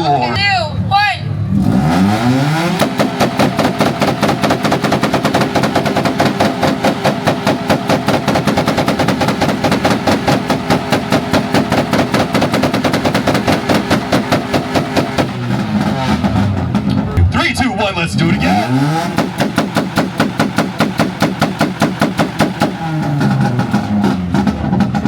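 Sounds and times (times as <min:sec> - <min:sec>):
exhaust popping and banging: 0:01.5 - 0:25.0.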